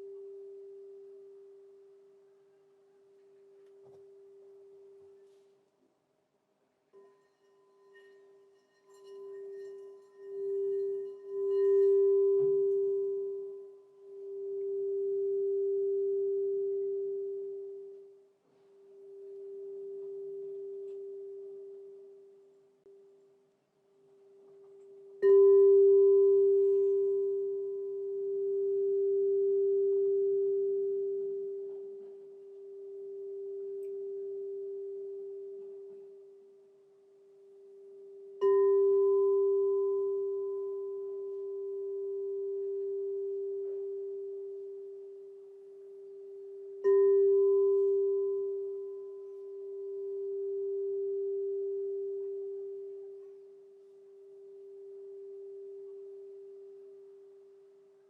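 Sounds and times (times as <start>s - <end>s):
crystal singing bowl ringing: 6.9s - 22.6s, 24.3s - 57.8s.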